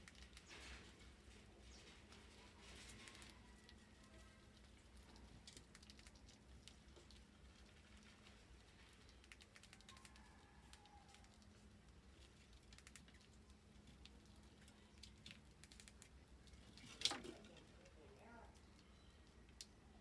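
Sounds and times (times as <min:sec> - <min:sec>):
rodent claws clicking and scratching: 0:00.0 - 0:17.8.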